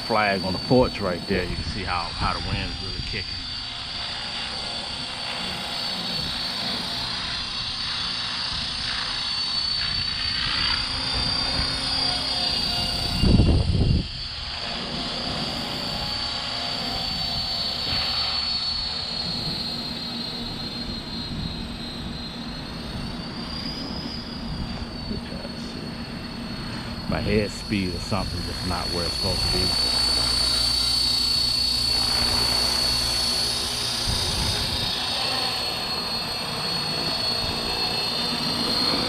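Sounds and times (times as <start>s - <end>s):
wind buffeting microphone: 0.0s - 4.0s, 9.7s - 16.3s, 17.0s - 39.0s
rc helicopter motor whine: 0.0s - 39.0s.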